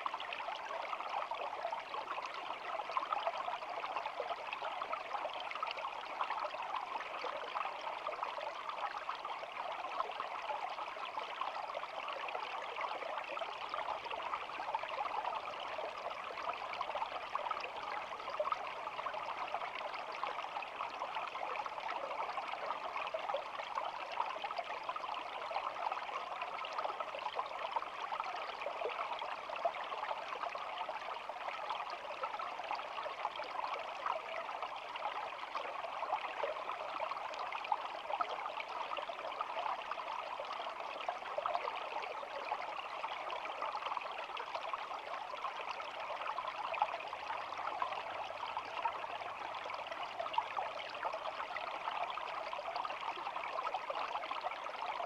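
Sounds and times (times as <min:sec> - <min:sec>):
shallow brook babbling: 0:00.0 - 0:55.0.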